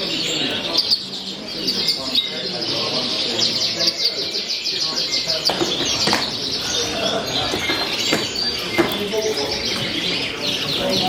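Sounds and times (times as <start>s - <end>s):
cage birds chirping and twittering: 0.0s - 11.0s.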